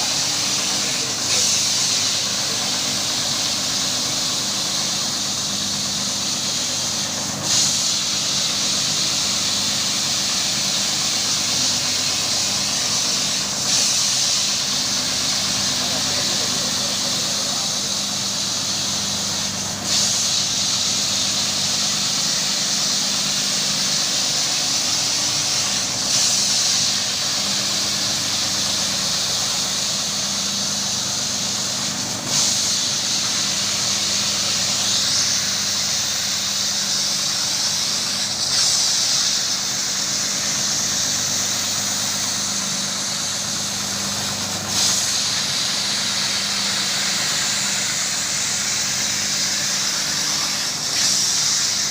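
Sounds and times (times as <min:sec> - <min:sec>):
carpet-washing machine hum and hiss: 0:00.0 - 0:51.9.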